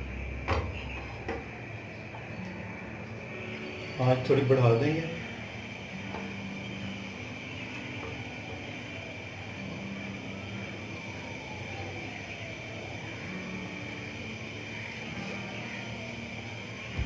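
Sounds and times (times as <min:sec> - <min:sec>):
high whine: 0:00.0 - 0:17.0
kitchen hum and rush: 0:00.0 - 0:17.0.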